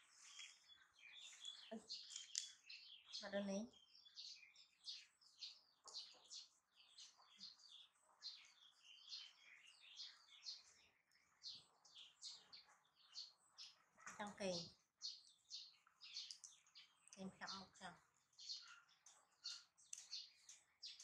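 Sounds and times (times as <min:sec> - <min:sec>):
small birds chirping faintly: 0:00.0 - 0:21.0.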